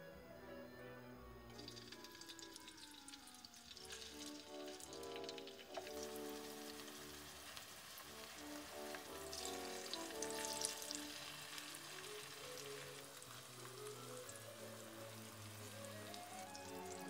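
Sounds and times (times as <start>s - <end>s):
soft background music: 0.0s - 17.0s
food sizzling in oil: 1.5s - 17.0s.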